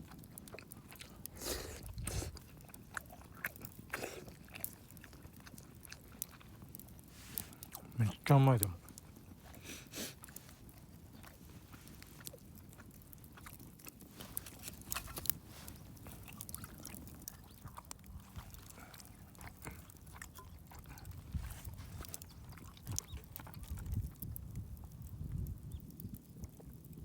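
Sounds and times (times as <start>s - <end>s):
person chewing food: 0.0s - 25.5s.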